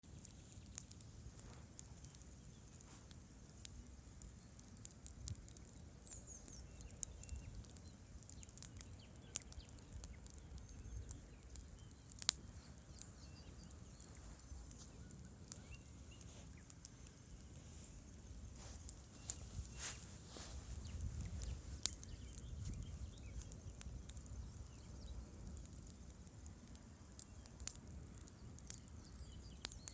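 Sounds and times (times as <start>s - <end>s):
bonfire crackling and popping: 0.0s - 29.9s.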